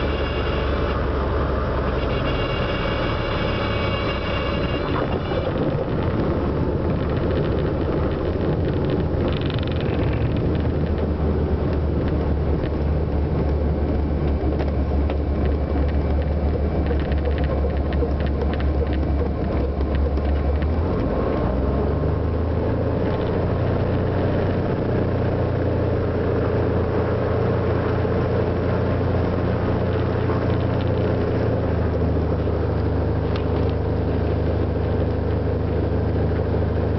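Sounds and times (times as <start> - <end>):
plane engine and propeller: 0.0 - 36.9.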